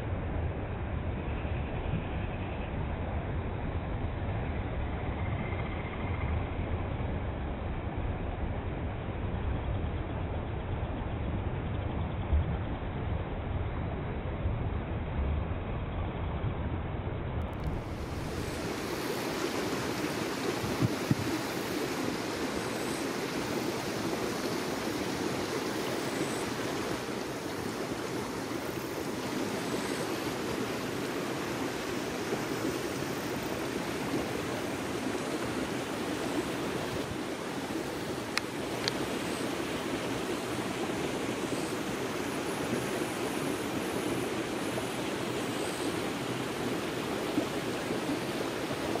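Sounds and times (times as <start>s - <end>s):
steady outdoor rushing noise: 0.0s - 49.0s.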